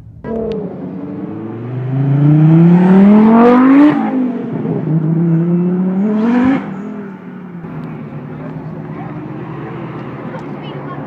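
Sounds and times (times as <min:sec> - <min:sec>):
turbocharged car engine accelerating: 0:00.0 - 0:11.0.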